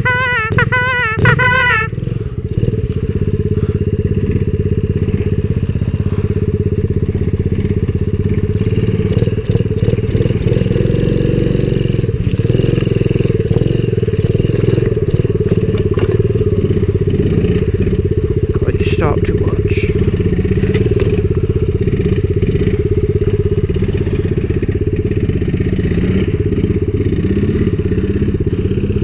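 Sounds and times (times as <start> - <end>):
small motorbike engine running: 0.0 - 29.0.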